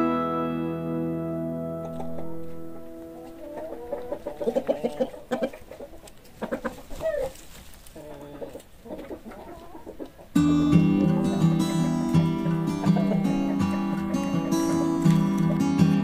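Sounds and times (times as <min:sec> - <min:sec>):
chickens clucking: 0:01.7 - 0:16.0.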